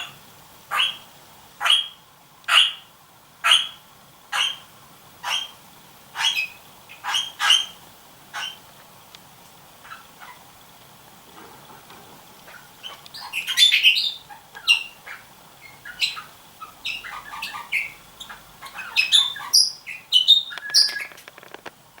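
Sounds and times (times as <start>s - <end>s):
parrots chirping: 0.0s - 8.7s, 9.8s - 10.6s, 11.3s - 21.5s.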